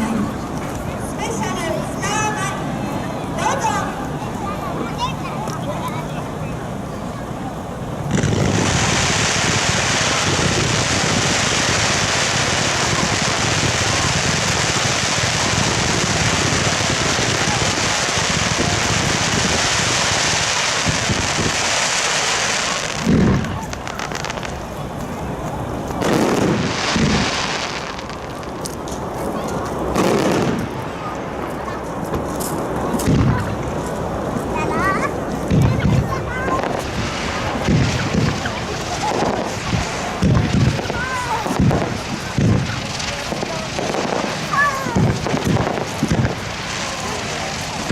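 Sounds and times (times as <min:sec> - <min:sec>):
crowd chatter: 0:00.0 - 0:47.9
fireworks crackling: 0:00.0 - 0:47.9.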